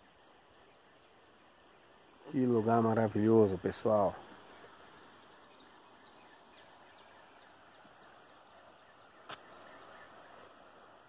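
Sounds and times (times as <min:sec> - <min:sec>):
bird chirping: 0:00.0 - 0:10.6
faint river rushing: 0:00.0 - 0:11.0.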